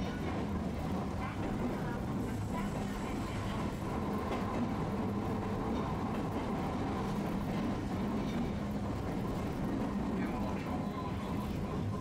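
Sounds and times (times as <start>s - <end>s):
streetcar running on track: 0.0s - 12.0s.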